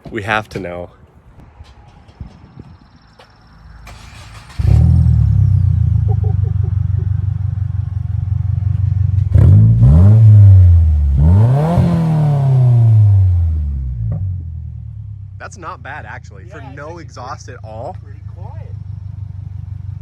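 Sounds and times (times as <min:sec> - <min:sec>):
car engine idling and revving: 0:03.3 - 0:20.0.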